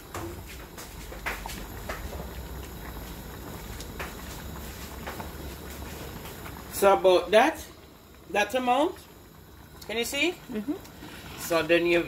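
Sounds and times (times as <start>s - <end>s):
pot simmering on gas hob: 0.0s - 12.0s.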